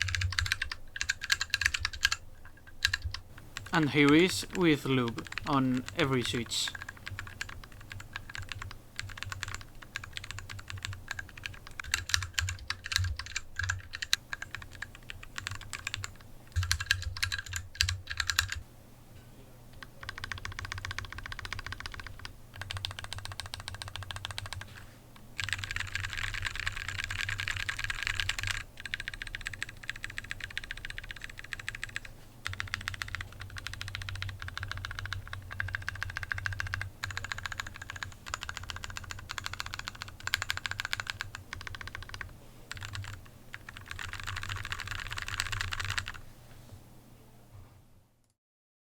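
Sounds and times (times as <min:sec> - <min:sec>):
mechanical keyboard typing: 0:00.0 - 0:18.6, 0:19.8 - 0:24.7, 0:25.4 - 0:46.2.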